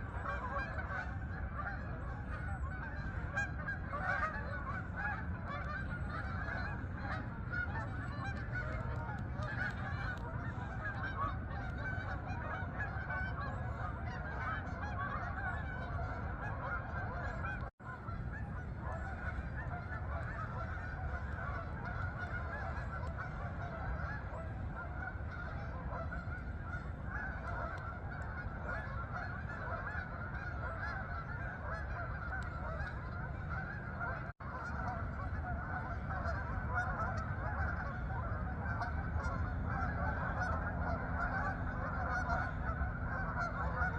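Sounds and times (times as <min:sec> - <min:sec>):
geese honking: 0:00.0 - 0:43.9
low steady rumble: 0:00.0 - 0:43.9.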